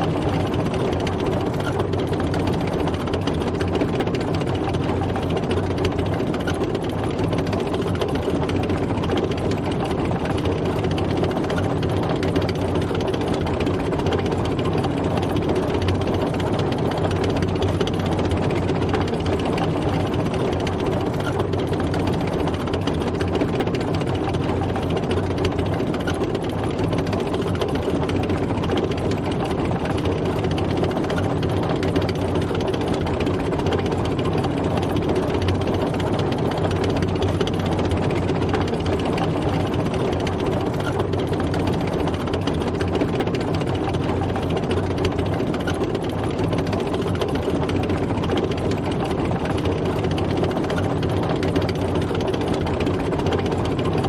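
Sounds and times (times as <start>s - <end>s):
continuous track rattle: 0.0s - 54.0s
heavy engine running: 0.0s - 54.0s.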